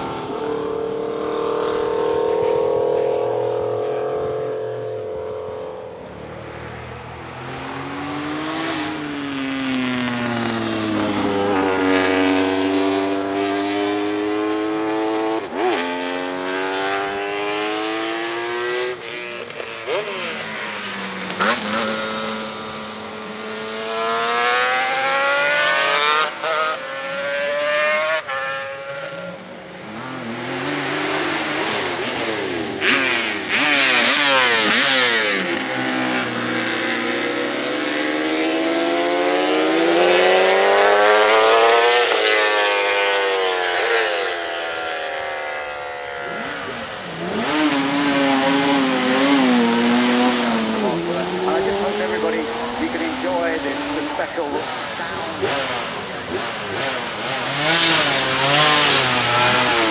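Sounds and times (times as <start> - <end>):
racing motorcycle engines accelerating: 0.0 - 59.9.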